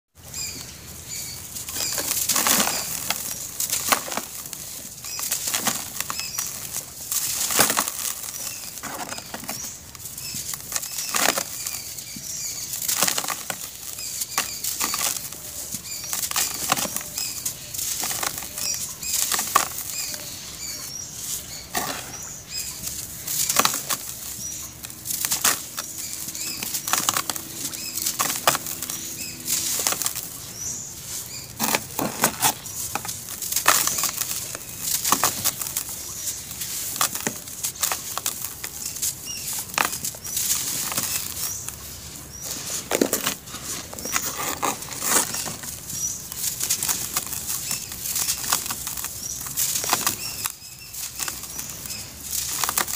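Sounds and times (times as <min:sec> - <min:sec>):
charcoal crumbling by hand: 0:00.2 - 0:52.9.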